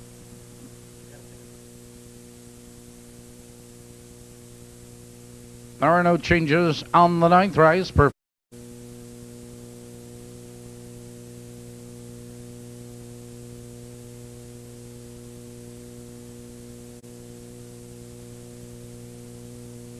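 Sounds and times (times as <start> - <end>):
electrical mains hum: 0.0 - 19.9.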